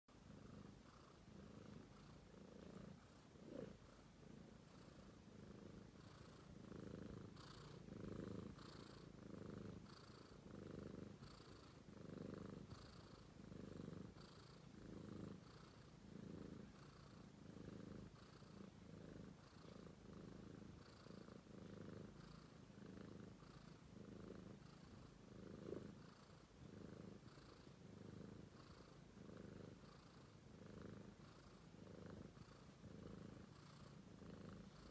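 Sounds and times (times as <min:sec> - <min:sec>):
kitten purring: 0:00.1 - 0:34.9.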